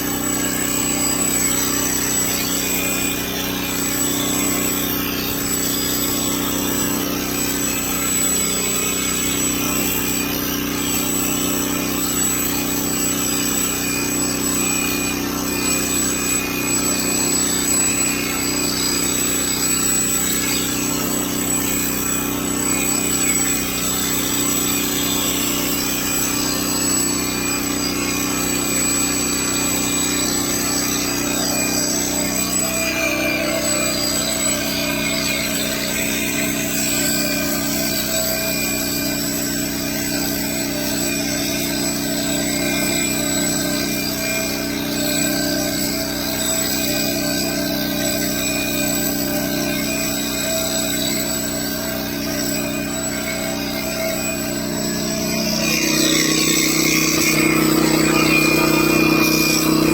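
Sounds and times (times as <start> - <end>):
electric hair clipper running: 0.0 - 59.9.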